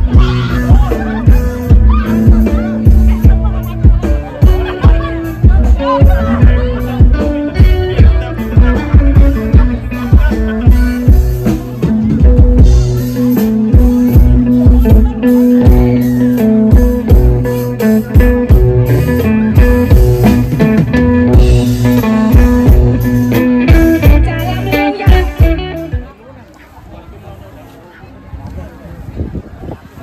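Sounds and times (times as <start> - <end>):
drum kit beat: 0.0 - 26.1
guitar: 0.0 - 26.8.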